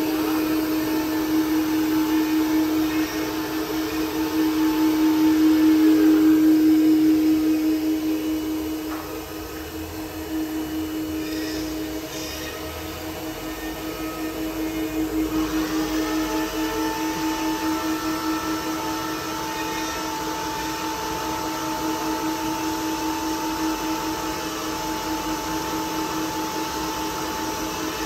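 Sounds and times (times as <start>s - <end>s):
router spindle whine: 0.0s - 28.0s
wood cutting noise: 0.0s - 28.0s.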